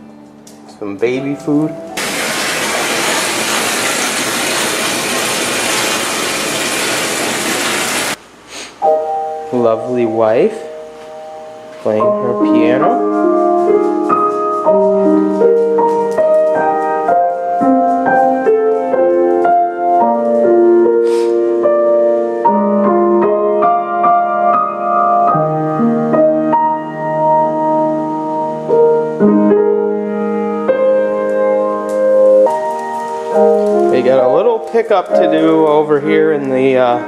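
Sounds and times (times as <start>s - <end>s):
slow piano piece: 0.0s - 37.0s.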